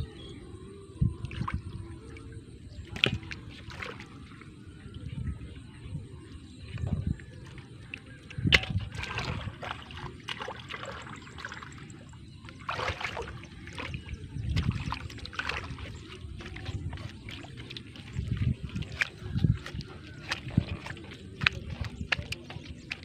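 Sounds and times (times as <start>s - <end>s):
hands splashing in muddy water: 1.2s - 4.7s, 6.7s - 23.0s.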